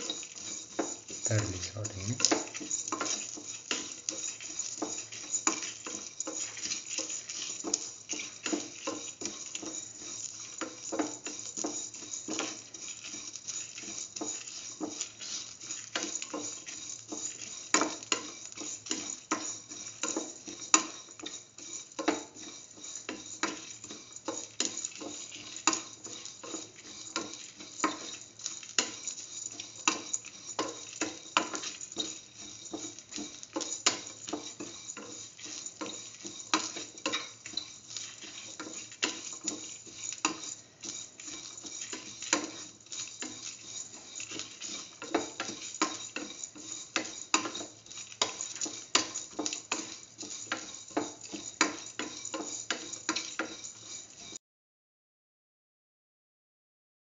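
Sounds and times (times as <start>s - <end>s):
oil sizzling: 0.0s - 54.4s
spatula scraping steel pan: 0.0s - 54.4s.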